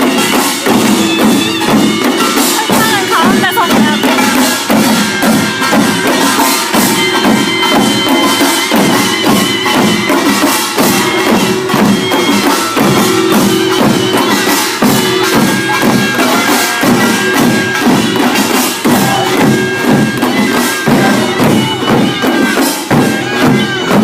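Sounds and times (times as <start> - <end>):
drums beating fast rhythm: 0.0 - 24.0
reedy wind instrument tone: 0.0 - 24.0
small gongs: 0.0 - 24.0.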